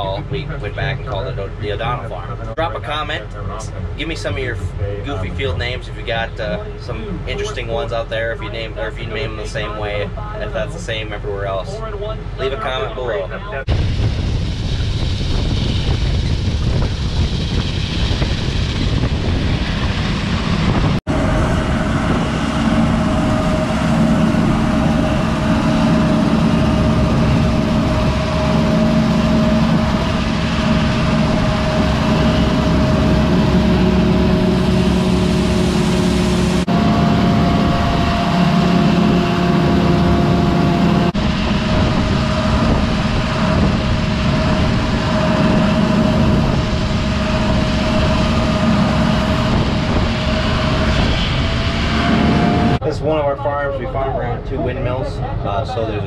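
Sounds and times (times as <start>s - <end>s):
combine harvester drone and whine: 0.0s - 56.0s.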